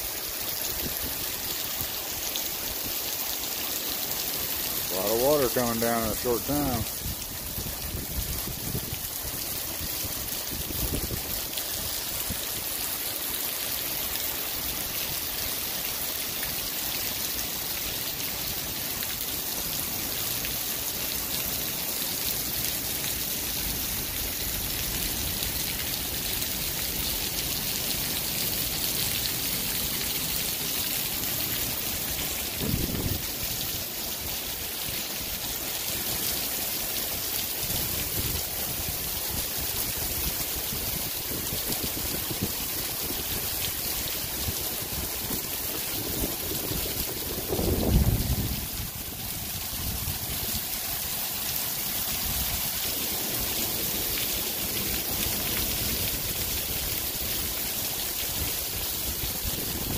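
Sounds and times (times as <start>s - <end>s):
heavy rain on pavement: 0.0s - 59.9s.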